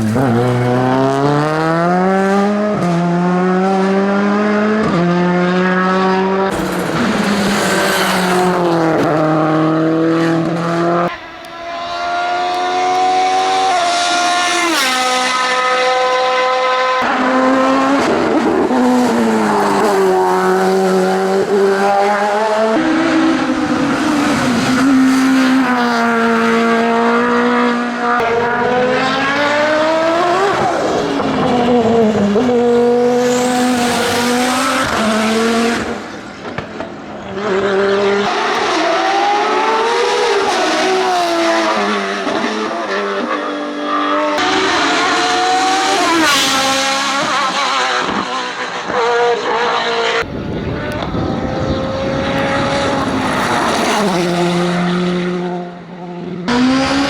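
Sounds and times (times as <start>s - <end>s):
racing car engines at full throttle: 0.0s - 57.0s.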